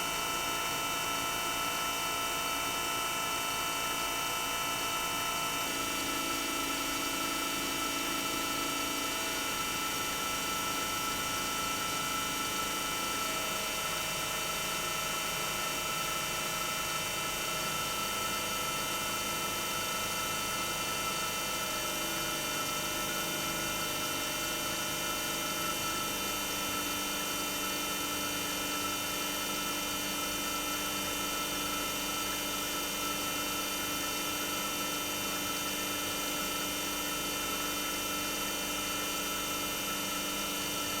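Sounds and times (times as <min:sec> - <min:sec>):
compressor humming and whining: 0:00.0 - 0:41.0.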